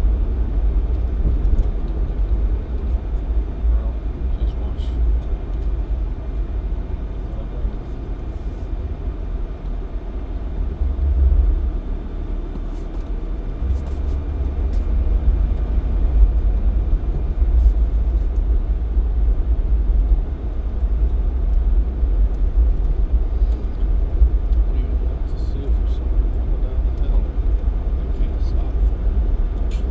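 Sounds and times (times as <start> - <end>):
car engine and road noise: 0.0 - 29.9.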